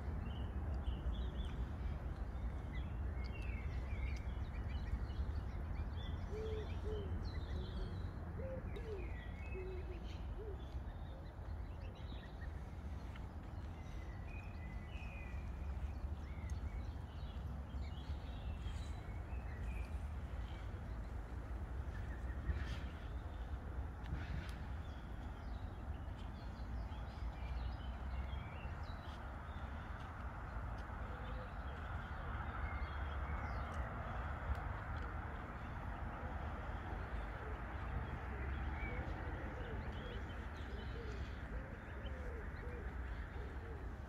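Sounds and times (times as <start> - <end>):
songbirds chirping and singing: 0.2 - 44.0.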